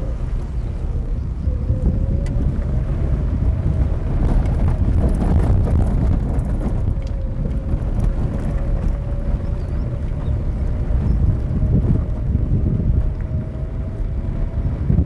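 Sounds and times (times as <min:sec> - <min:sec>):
road and wind noise rumble: 0:00.0 - 0:15.0.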